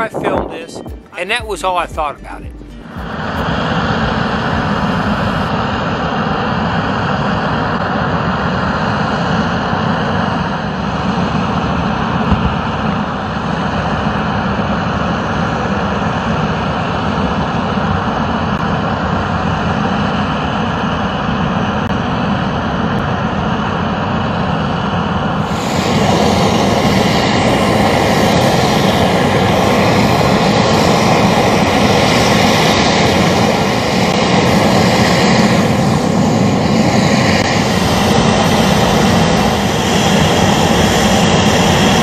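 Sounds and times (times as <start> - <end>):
aircraft engines running: 0.0 - 42.0.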